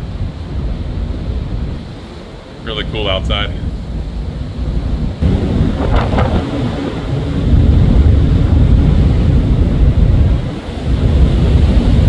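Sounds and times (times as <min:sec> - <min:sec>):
rough seas breaking: 0:00.0 - 0:12.0
wind buffeting microphone: 0:00.0 - 0:12.0.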